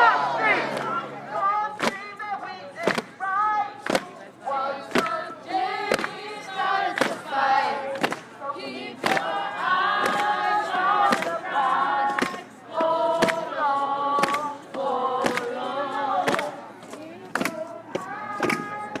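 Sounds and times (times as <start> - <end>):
crowd singing held notes: 0.0 - 19.0.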